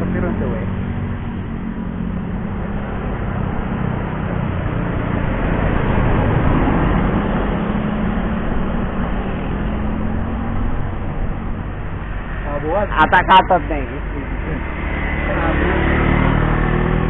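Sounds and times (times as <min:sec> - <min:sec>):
car driving past: 0:00.0 - 0:17.0
distant motorcycle riding by: 0:00.0 - 0:17.0.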